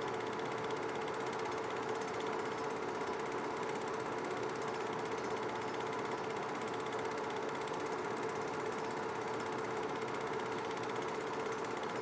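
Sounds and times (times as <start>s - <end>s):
film projector whirring and clattering: 0.0s - 12.0s.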